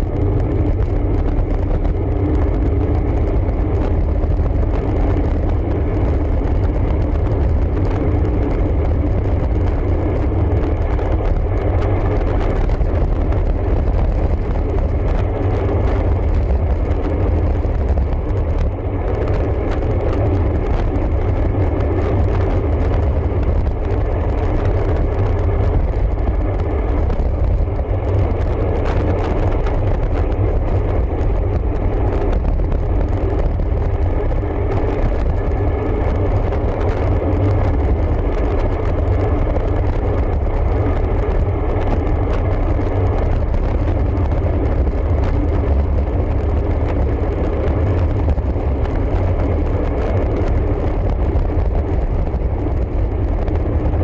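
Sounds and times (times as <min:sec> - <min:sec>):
road noise: 0:00.0 - 0:54.0
wind rumble on microphone: 0:00.0 - 0:54.0.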